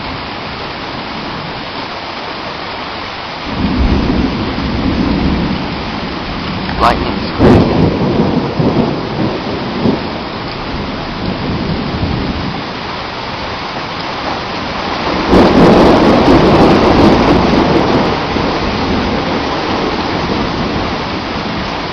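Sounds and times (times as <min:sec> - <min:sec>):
heavy rain pouring: 0:00.0 - 0:21.9
thunder cracking and rumbling: 0:03.5 - 0:21.9.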